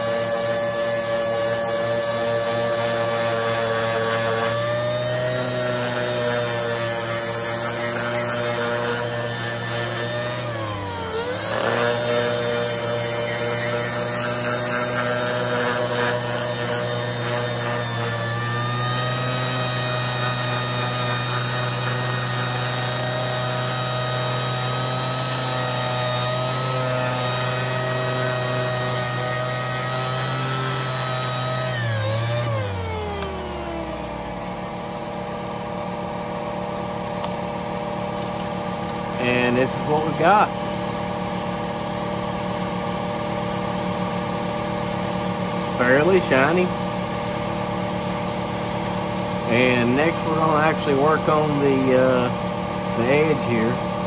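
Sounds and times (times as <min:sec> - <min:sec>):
electric sander on metal: 0:00.0 - 0:54.0.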